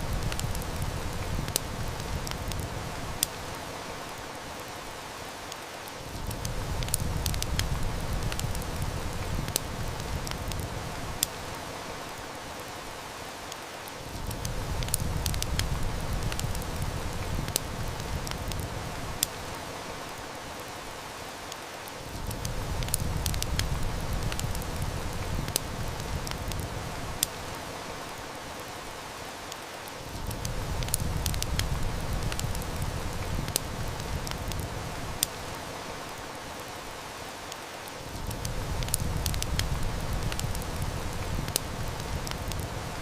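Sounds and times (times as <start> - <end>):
burning wood crackling: 0.0 - 43.0
heavy rain hissing: 0.0 - 43.0.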